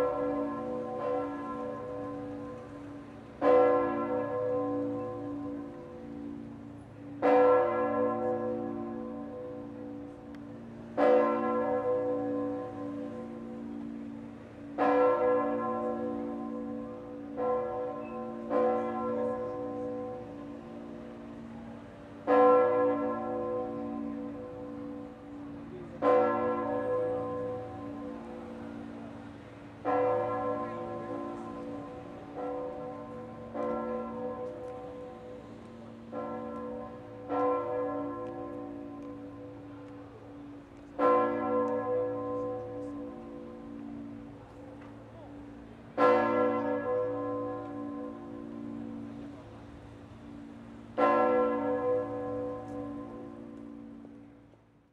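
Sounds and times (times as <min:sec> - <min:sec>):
church bells ringing: 0:00.0 - 0:54.9.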